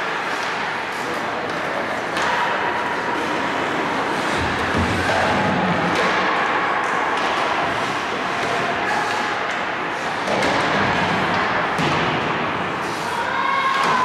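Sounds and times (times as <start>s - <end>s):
hockey sticks and puck knocking: 0.0s - 12.6s, 13.6s - 14.0s.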